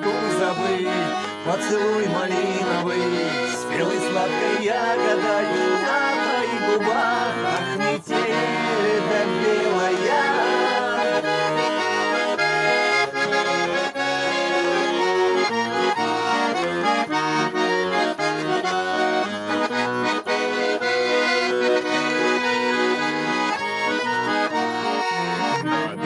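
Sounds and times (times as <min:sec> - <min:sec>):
accordion melody: 0:00.0 - 0:26.0.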